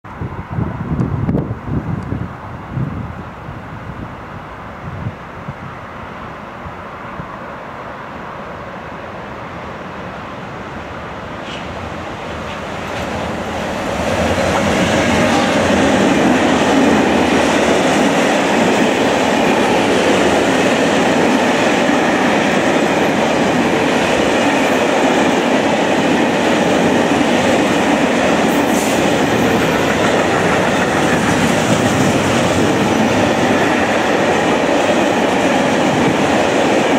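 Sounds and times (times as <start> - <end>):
freight train rolling past: 0.1 - 36.9.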